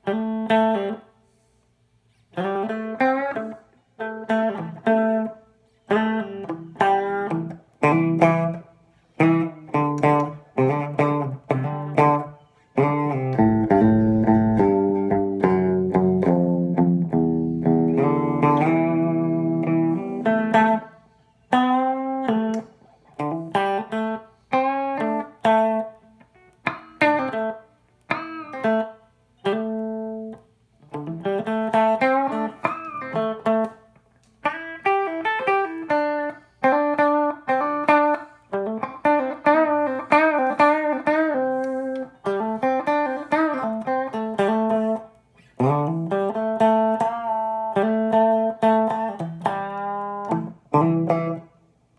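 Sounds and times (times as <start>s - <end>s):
electric guitar noodling: 0.0s - 1.1s, 2.3s - 51.6s.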